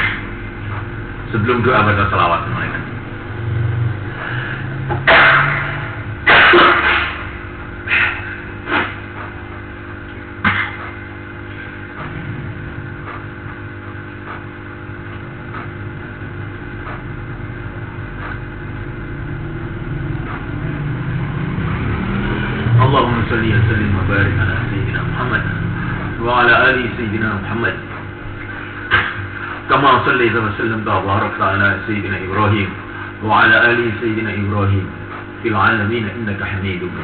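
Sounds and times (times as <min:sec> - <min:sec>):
steady hall hum: 0:00.0 - 0:37.0.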